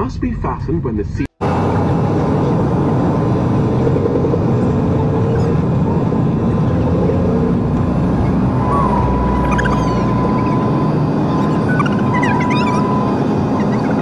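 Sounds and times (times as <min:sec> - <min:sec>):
aircraft engine rumble: 0:01.4 - 0:14.0.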